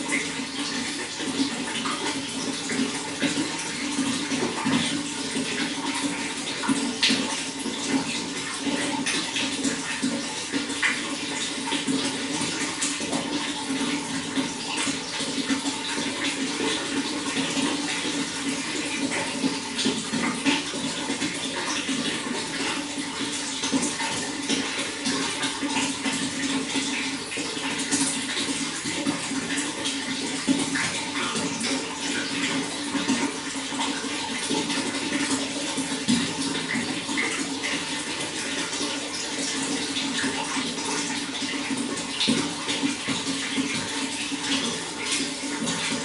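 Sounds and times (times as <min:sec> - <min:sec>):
running water gurgling: 0:00.0 - 0:46.0.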